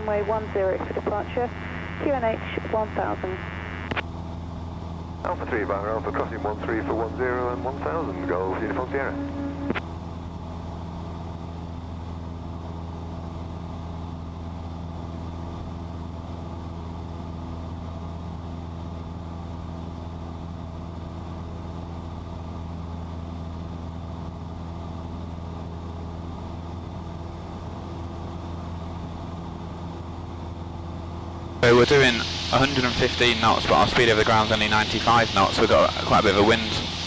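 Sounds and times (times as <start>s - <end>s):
propeller plane engine droning: 0.0s - 37.0s.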